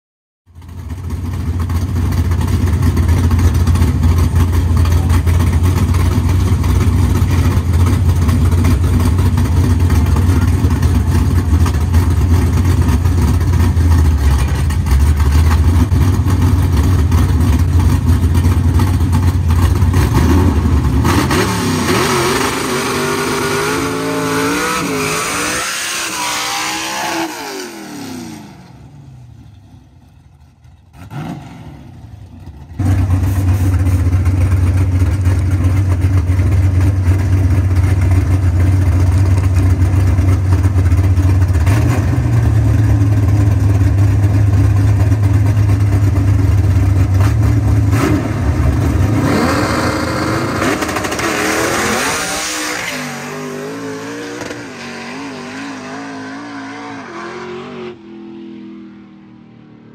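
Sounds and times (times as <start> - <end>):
drag race cars rumbling and revving: 0.5 - 59.9.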